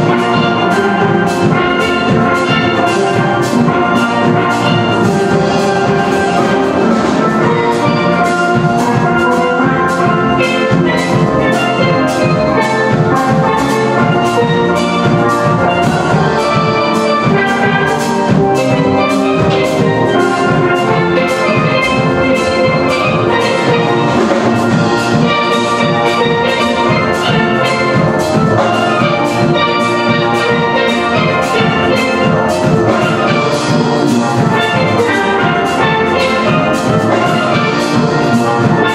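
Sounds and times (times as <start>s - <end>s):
steel band playing calypso: 0.0s - 38.9s.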